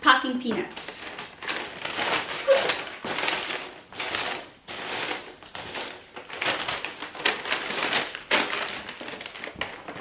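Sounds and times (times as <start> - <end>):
hands rustling packing peanuts: 0.6 - 10.0.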